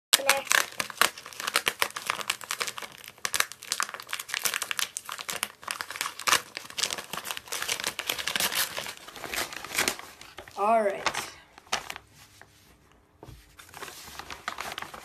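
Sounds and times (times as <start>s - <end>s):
plastic bag crinkling: 0.2s - 12.2s, 13.6s - 15.0s.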